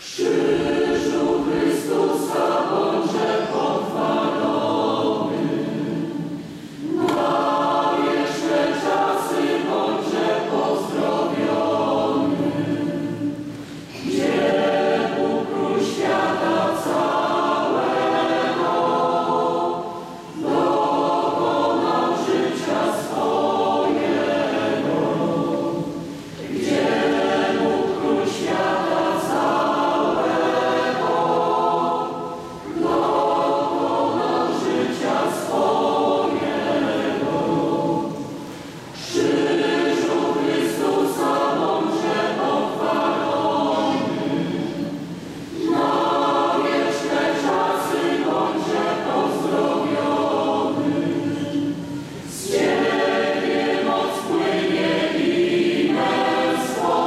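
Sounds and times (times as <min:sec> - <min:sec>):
mixed choir singing a hymn: 0:00.0 - 0:57.0.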